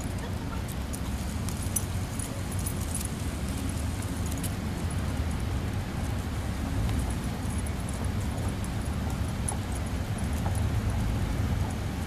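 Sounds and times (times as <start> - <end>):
dog leash jingling: 0.0 - 12.0
low outdoor rumble: 0.0 - 12.0.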